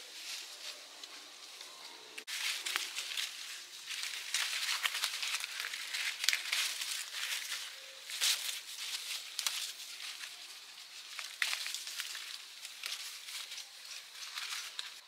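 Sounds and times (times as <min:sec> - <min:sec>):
leaves rustling and crackling: 0:00.0 - 0:15.0.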